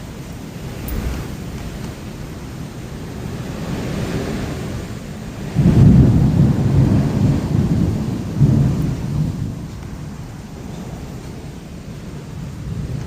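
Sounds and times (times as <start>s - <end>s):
rain hissing: 0.0s - 13.0s
strong wind: 0.0s - 13.0s
thunder rumbling: 0.0s - 13.0s.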